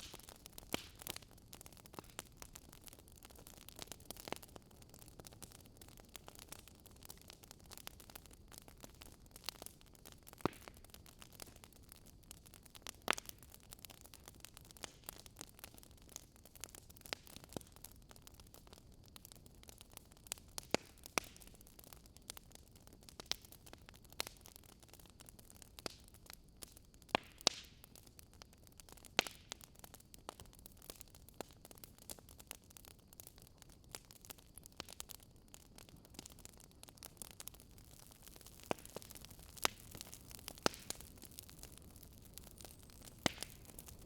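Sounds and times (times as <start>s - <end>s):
bonfire crackling: 0.0s - 44.0s.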